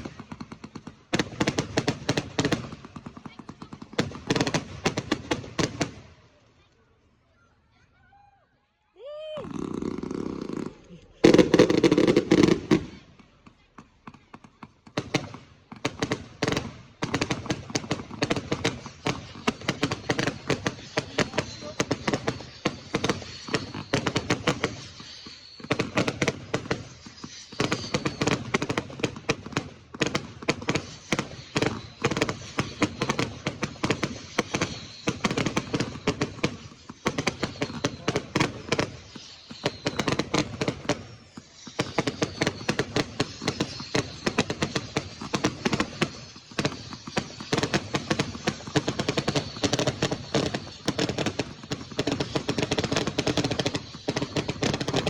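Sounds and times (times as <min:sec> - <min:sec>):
fireworks bangs and cracks: 0:00.0 - 0:06.5, 0:09.1 - 0:55.0.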